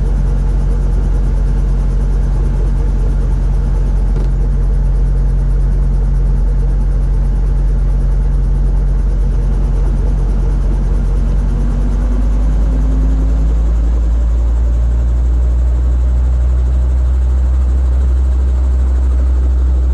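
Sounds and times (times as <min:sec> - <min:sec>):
helicopter engine low drone: 0:00.0 - 0:19.9.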